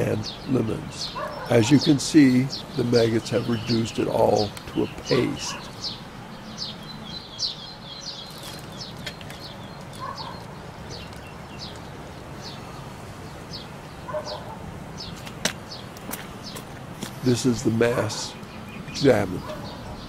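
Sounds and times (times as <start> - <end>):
small bird chirping: 0.0 - 17.3, 18.2 - 20.0.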